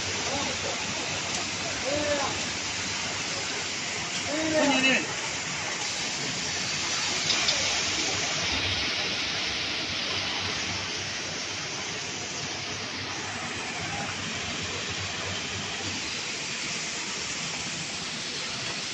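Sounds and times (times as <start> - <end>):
production line machinery running: 0.0 - 18.9.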